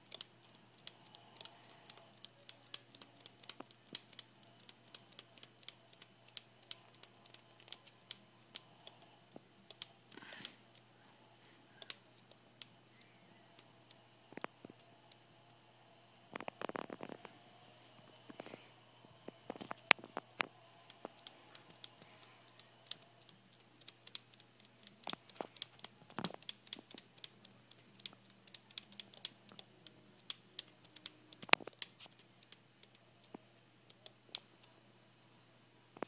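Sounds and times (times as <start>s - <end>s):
light clicks and taps: 0.0s - 14.9s, 19.5s - 34.8s
faint low hum: 0.0s - 36.0s.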